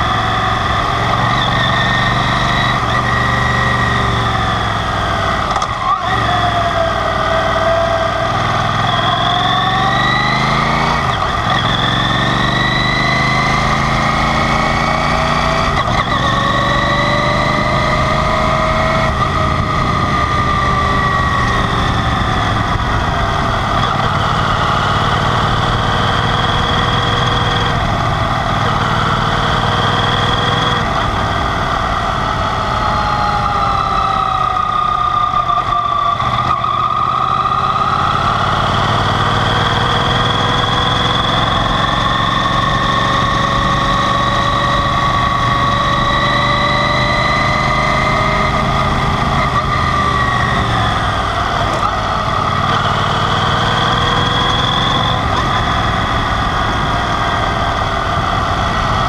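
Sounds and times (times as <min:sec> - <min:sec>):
motorcycle engine changing gears: 0:00.0 - 0:59.0.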